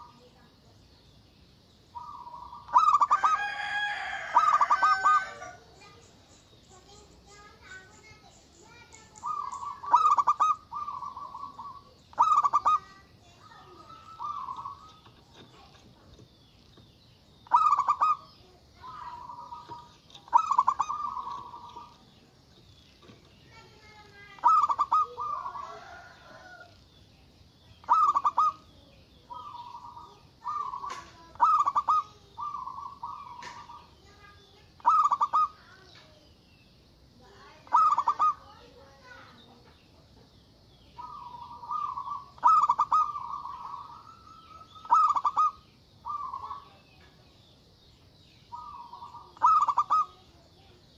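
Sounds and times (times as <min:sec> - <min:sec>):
dove cooing: 0:00.0 - 0:00.4, 0:02.0 - 0:06.1, 0:06.7 - 0:16.3, 0:17.4 - 0:26.8, 0:27.8 - 0:35.8, 0:37.4 - 0:40.1, 0:40.9 - 0:47.0, 0:48.5 - 0:50.9
faint high chirping: 0:00.0 - 0:50.9.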